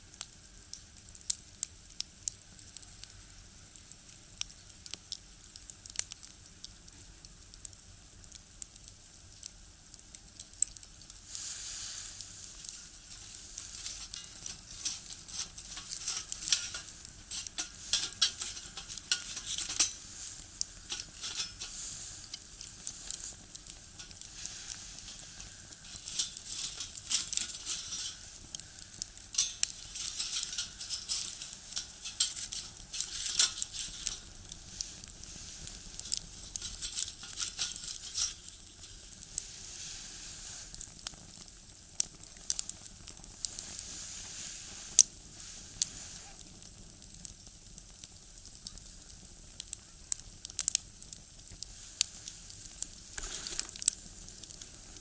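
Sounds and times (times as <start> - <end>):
wood fire crackling and popping: 0.0 - 55.0
fire hissing: 0.1 - 55.0.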